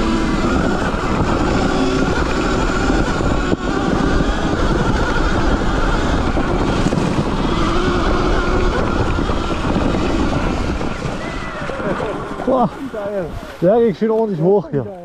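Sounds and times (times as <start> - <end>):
electric motorbike drivetrain whine: 0.0 - 13.4
wind on camera: 0.0 - 14.9
tyres rumbling on dirt: 0.0 - 15.0.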